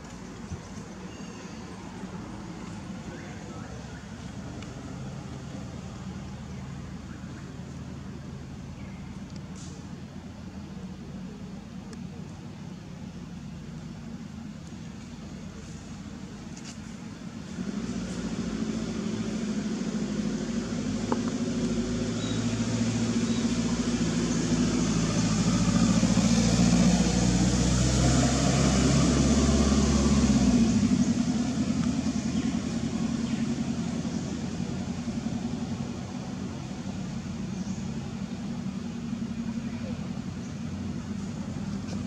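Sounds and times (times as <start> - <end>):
traffic hum and hiss: 0.0 - 42.0
vehicle engine humming: 0.0 - 42.0.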